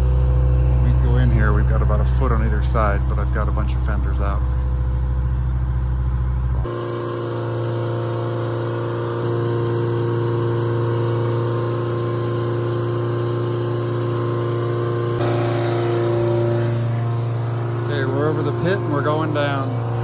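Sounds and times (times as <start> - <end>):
travel lift engine running: 0.0 - 20.0.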